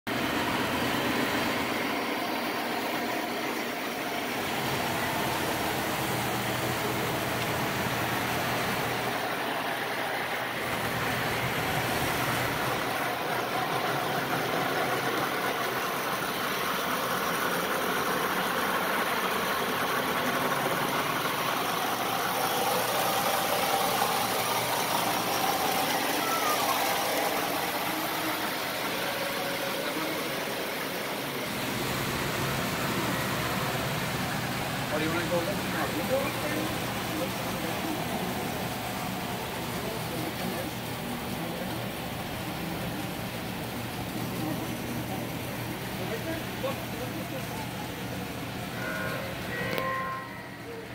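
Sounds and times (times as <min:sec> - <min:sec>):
model train motors and wheels humming: 0:00.1 - 0:50.9.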